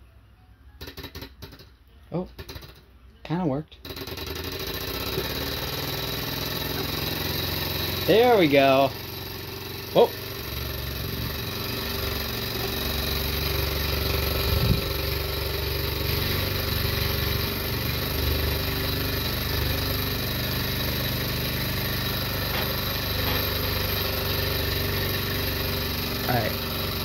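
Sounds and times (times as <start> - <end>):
stirling engine mechanical clatter: 3.9 - 27.0.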